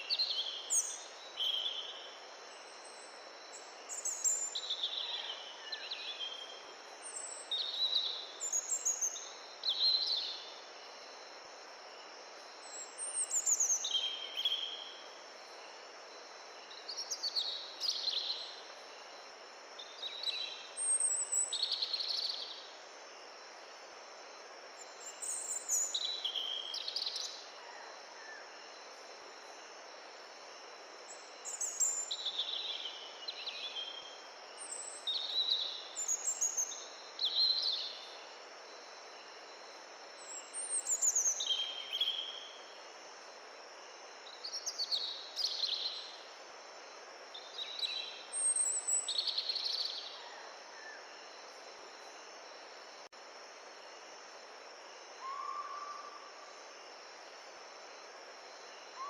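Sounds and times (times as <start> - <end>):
songbird singing: 0.0 - 24.0, 24.7 - 46.5, 47.2 - 56.9, 58.4 - 59.0.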